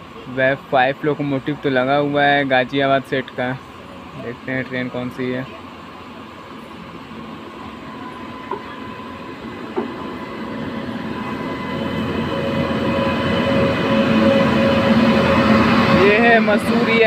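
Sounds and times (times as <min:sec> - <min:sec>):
steady locomotive whine: 0:00.0 - 0:17.0
train wheels rumbling on rails: 0:00.0 - 0:17.0.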